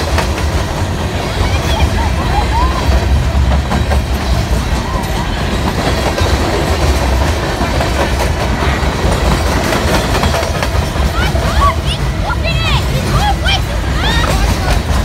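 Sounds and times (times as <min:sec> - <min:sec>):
freight train low rumble: 0:00.0 - 0:15.0
wheels clicking over rails: 0:00.0 - 0:15.0.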